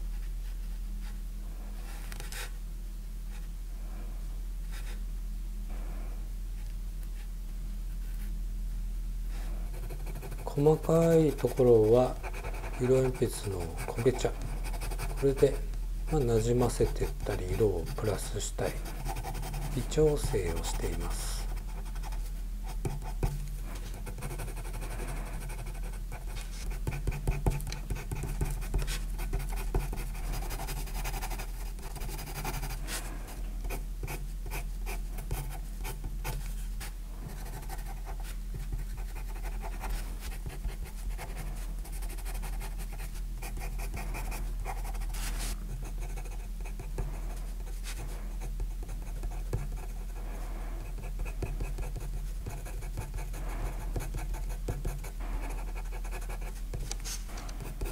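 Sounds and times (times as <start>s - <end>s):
steady low hum: 0.0s - 57.9s
pencil scratching on paper: 9.7s - 23.3s, 23.9s - 36.4s, 37.3s - 57.9s.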